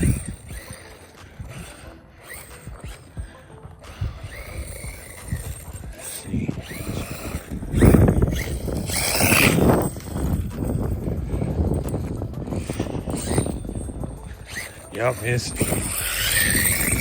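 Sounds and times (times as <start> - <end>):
electric motor whining: 0.0 - 17.0
wind buffeting microphone: 0.0 - 17.0.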